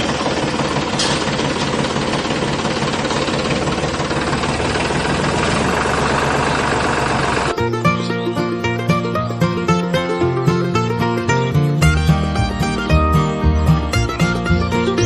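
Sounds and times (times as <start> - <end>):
engine running with rattle: 0.0 - 15.0.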